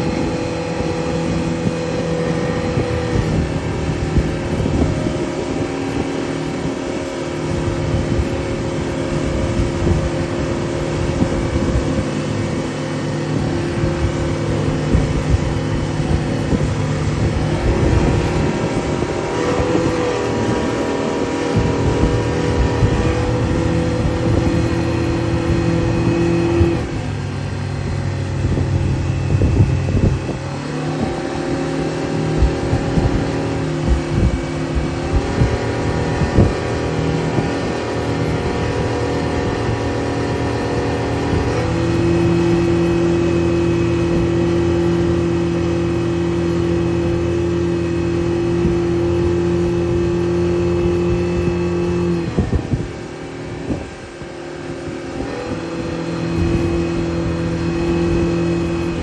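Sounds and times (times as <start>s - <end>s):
engine running: 0.0s - 59.0s
rushing noise: 0.0s - 59.0s.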